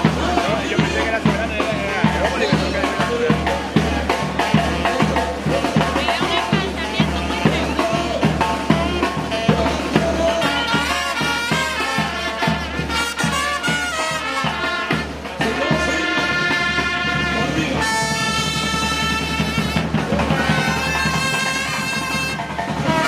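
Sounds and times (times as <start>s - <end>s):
pounding drum beat: 0.0s - 23.0s
trumpets and trombones: 0.0s - 23.0s.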